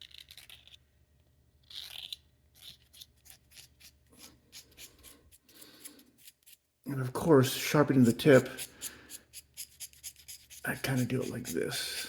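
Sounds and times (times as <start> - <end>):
razor blade scraping pencil wood: 0.0 - 0.8, 1.6 - 6.7, 7.7 - 12.0.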